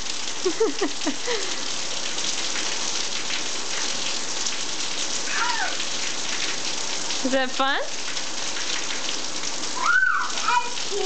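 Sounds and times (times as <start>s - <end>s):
heavy rain on concrete: 0.0s - 11.0s.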